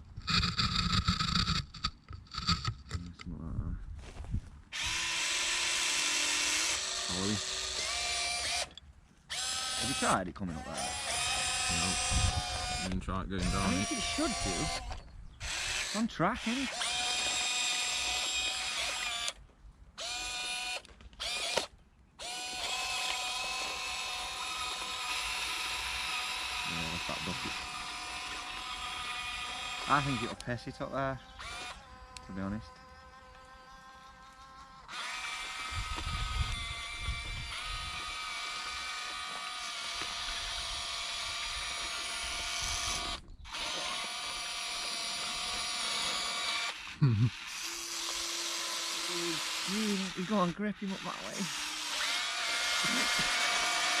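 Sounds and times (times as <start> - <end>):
electric motors whining: 0.0 - 3.2, 4.7 - 19.4, 20.0 - 54.0.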